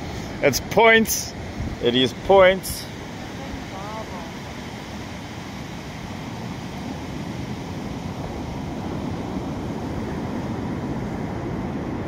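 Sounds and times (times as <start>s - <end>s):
ocean surf: 0.0s - 12.0s
wind on the shore: 0.0s - 12.0s.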